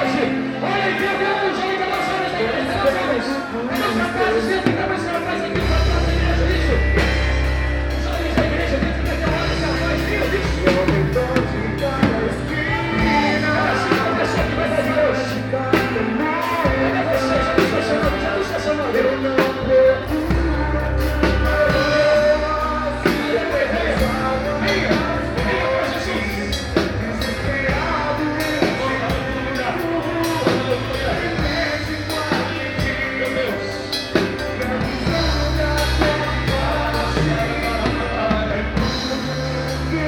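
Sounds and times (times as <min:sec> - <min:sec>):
bass guitar: 0:00.0 - 0:40.0
drum kit: 0:00.0 - 0:40.0
person singing: 0:00.0 - 0:40.0
worship band playing: 0:00.0 - 0:40.0.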